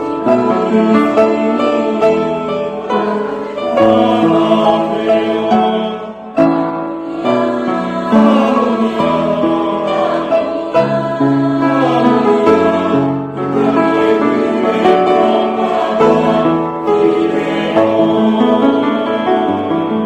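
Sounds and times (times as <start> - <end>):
choir singing a hymn: 0.0 - 20.0
piano accompaniment: 0.0 - 20.0.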